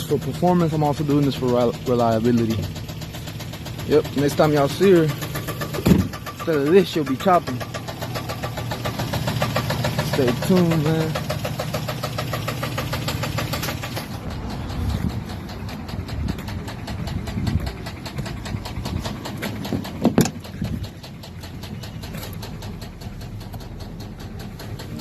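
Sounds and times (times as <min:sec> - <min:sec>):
engine idling with valvetrain ticking: 0:00.0 - 0:25.0.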